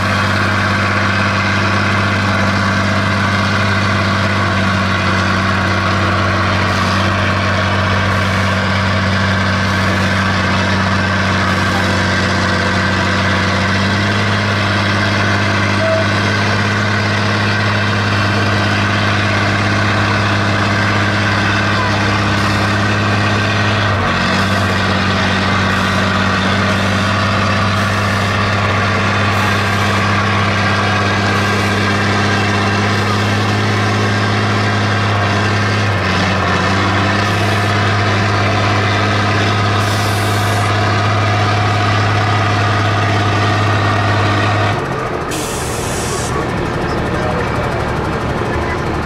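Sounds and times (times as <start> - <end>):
truck diesel engine idling: 0.0 - 49.0.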